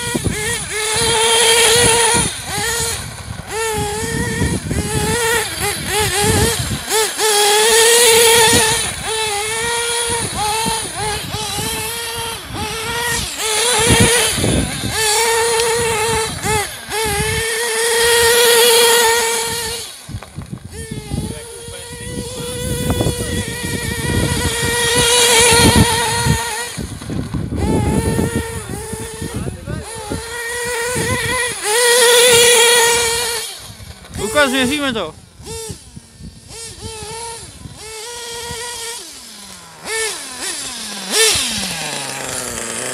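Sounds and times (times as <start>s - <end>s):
rc car engine revving: 0.0s - 42.9s.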